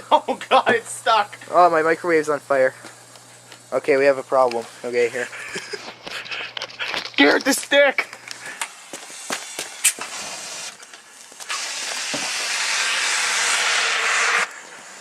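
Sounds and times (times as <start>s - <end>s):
road flare crackling and hissing: 0.0s - 15.0s.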